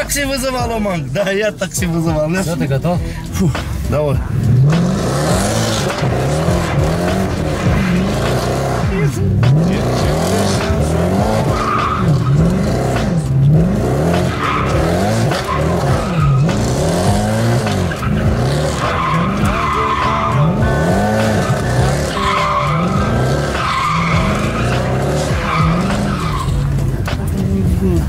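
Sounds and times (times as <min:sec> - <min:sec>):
car engine revving: 0:00.0 - 0:28.0
tyres squealing: 0:04.2 - 0:27.2.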